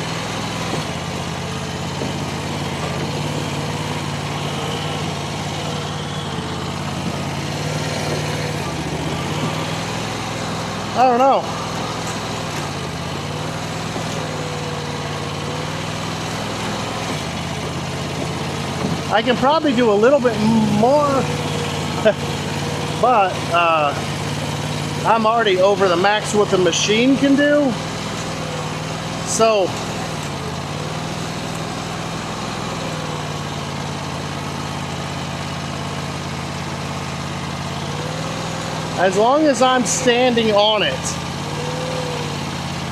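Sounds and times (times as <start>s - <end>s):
skid steer engine running: 0.0s - 42.9s.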